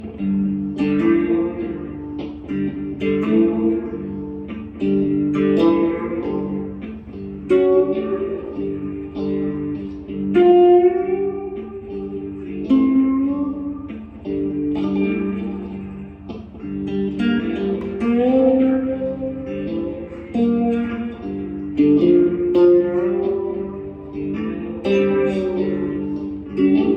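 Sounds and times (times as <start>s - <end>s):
slide guitar notes and chords: 0.0s - 26.9s.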